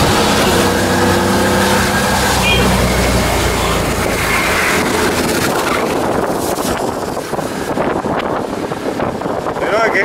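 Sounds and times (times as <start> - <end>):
engine running: 0.0 - 9.3
wind buffeting microphone: 0.0 - 10.0.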